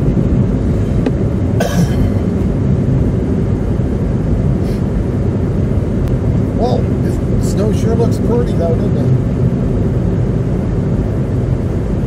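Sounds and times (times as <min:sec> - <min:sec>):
tyre and road rumble: 0:00.0 - 0:12.0.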